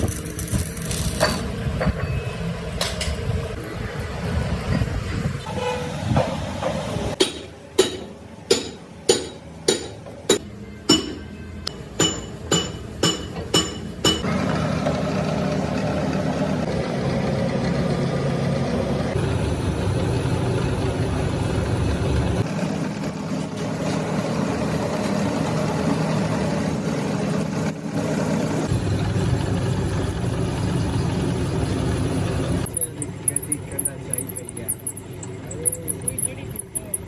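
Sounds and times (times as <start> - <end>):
workshop machinery humming: 0.0 - 37.0.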